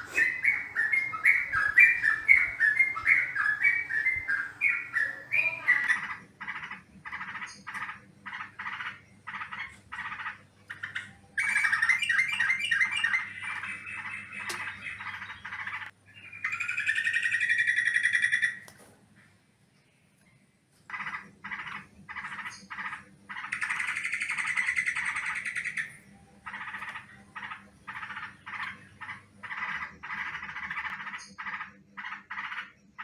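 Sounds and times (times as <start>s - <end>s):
bird chattering and trilling: 0.0s - 18.6s, 20.9s - 33.0s.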